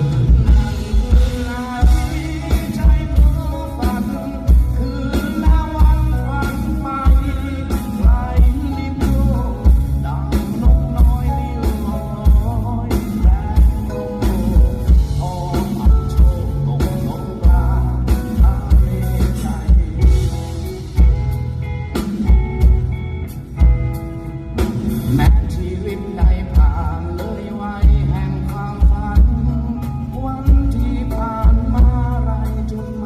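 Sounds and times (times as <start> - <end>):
rock band playing: 0.0 - 33.0.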